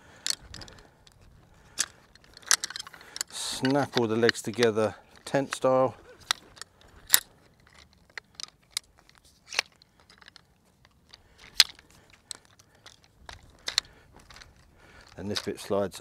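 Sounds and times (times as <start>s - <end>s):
chair poles clicking together: 0.1s - 15.7s.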